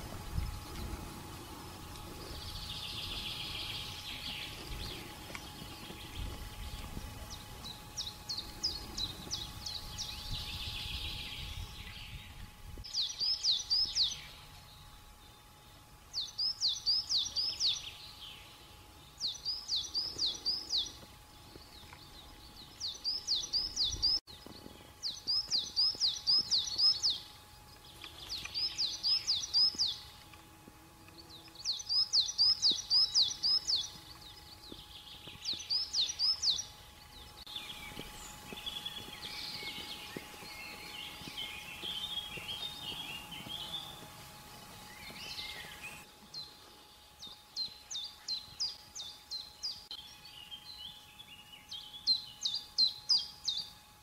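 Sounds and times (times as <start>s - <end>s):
bird song chirps: 0.0s - 30.4s, 31.0s - 54.0s.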